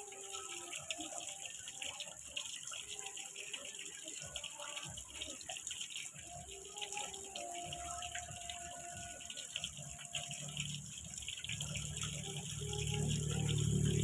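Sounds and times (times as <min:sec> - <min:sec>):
fountain spray splashing on pond: 0:00.0 - 0:14.0.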